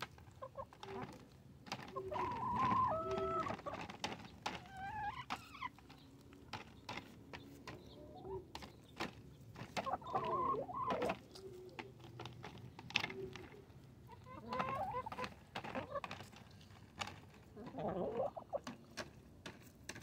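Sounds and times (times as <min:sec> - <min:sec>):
beaks pecking foil tin: 0:00.0 - 0:20.0
hens clucking: 0:00.0 - 0:20.0.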